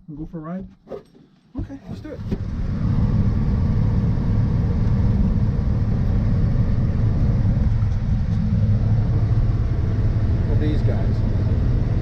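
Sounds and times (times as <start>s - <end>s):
truck engine running: 2.1s - 12.0s.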